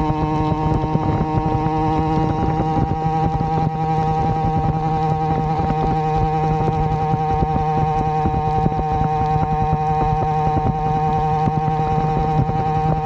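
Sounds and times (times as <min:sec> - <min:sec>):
two-stroke engine running: 0:00.0 - 0:13.0.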